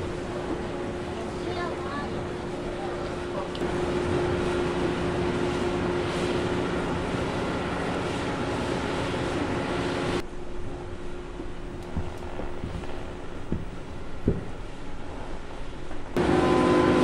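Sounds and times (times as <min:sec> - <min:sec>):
boat engine hum: 0:00.0 - 0:17.0.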